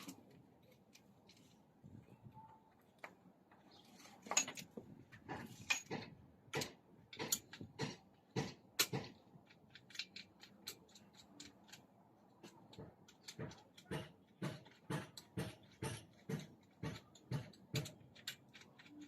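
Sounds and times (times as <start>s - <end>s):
metal tools clicking and knocking: 3.0s - 19.0s.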